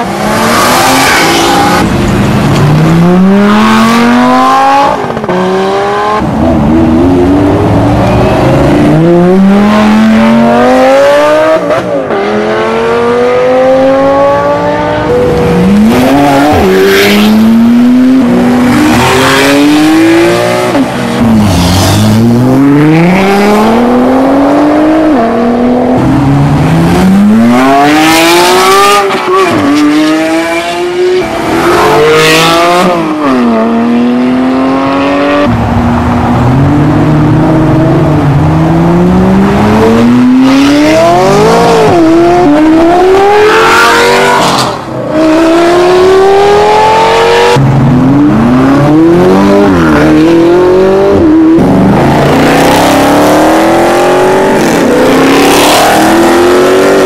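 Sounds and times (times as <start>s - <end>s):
sports car engines revving: 0.0s - 57.0s.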